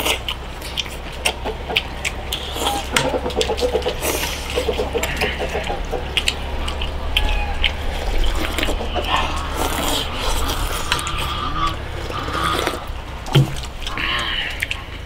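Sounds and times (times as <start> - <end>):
people slurping noodle soup: 0.0 - 13.1.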